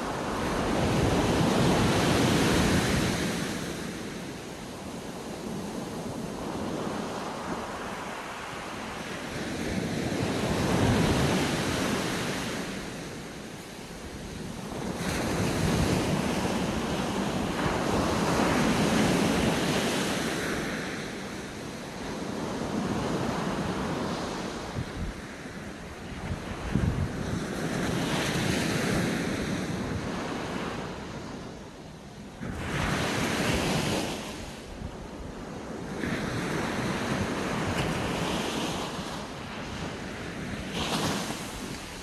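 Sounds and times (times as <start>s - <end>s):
small waves breaking on sand: 0.0s - 42.0s.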